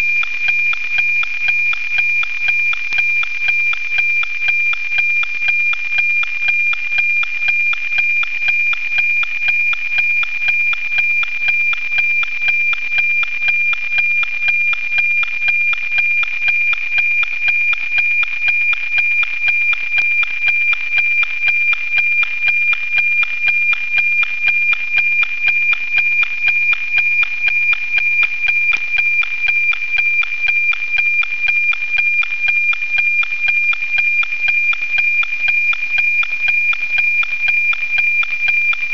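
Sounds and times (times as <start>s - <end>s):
steady high tone with ticking: 0.0s - 38.9s.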